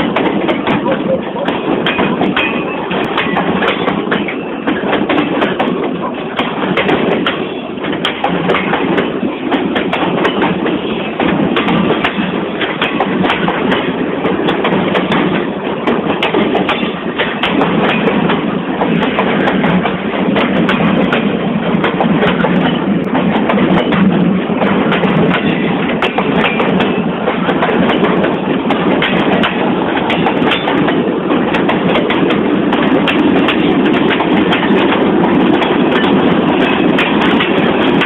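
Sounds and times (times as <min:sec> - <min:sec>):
freight train rumbling past: 0:00.0 - 0:38.0
wheels clattering over rails: 0:00.0 - 0:38.0.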